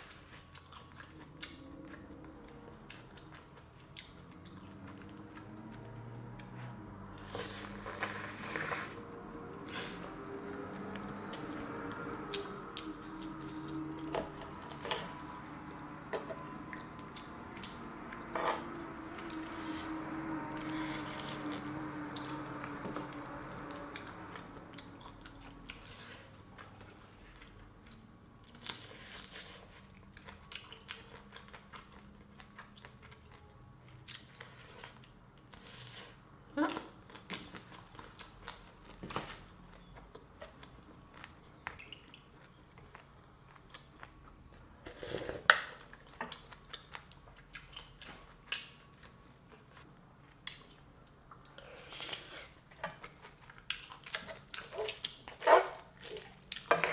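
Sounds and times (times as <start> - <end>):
person chewing food: 0.0 - 36.2, 36.9 - 56.9.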